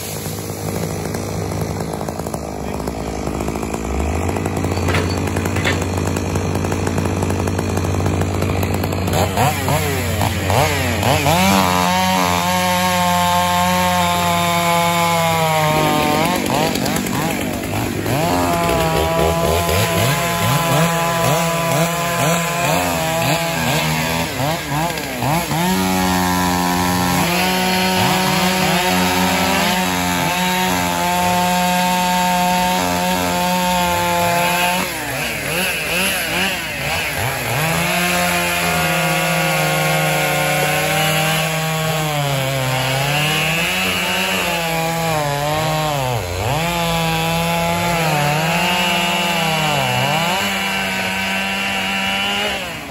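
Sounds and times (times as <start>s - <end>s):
wood-cutting machine running: 0.0s - 52.9s.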